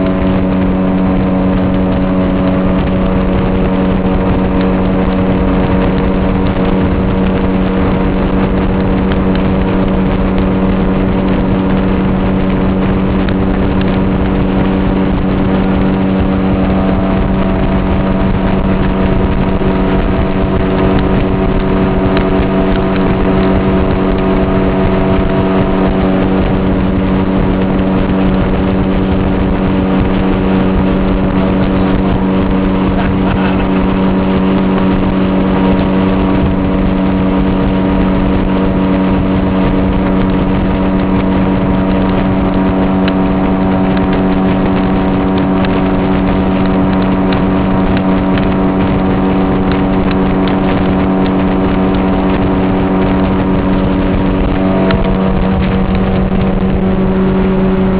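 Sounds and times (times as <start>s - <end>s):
boat motor running: 0.0s - 57.9s
rushing noise: 0.0s - 57.9s.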